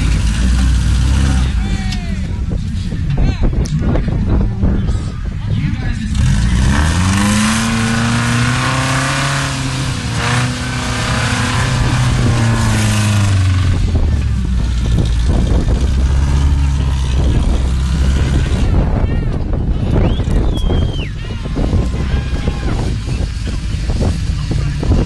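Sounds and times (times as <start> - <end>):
buggy engine revving: 0.0 - 25.0.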